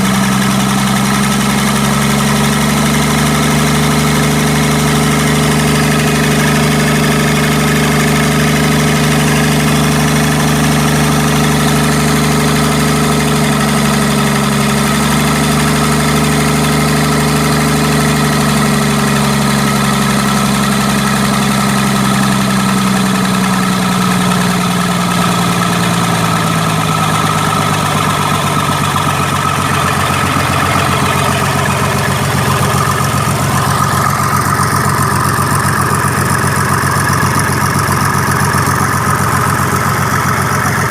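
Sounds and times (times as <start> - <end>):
diesel generator engine running: 0.0 - 40.9.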